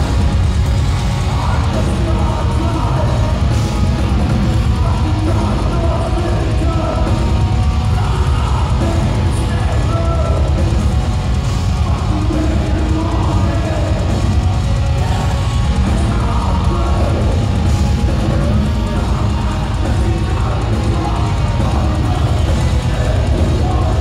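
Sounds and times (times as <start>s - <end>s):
heavy distorted guitars: 0.0s - 24.0s
rapid drumming: 0.0s - 24.0s.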